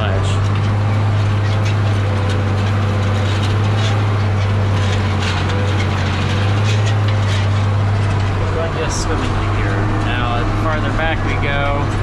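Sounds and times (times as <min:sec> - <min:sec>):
light rattles: 0:00.0 - 0:12.0
tractor diesel engine droning: 0:00.0 - 0:12.0.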